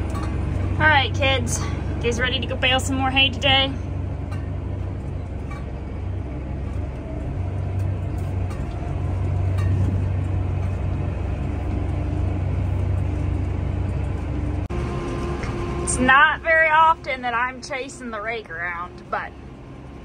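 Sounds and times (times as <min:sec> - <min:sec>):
vehicle engine low drone: 0:00.0 - 0:20.0.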